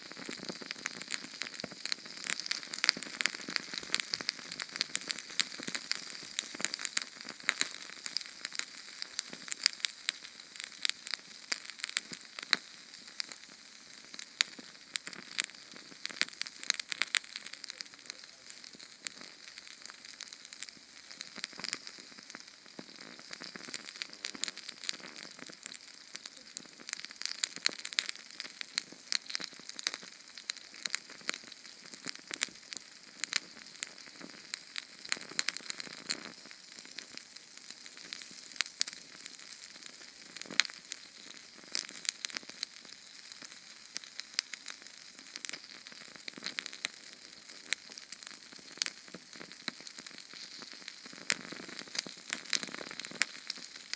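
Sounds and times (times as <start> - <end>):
canned fuel flame hissing and crackling: 0.0 - 53.9.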